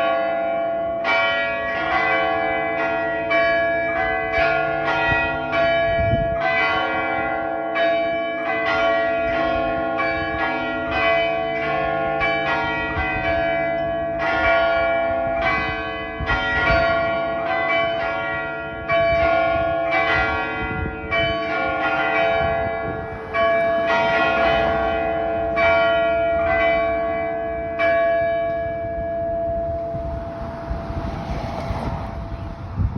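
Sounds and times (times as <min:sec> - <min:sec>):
church bells pealing: 0:00.0 - 0:30.5.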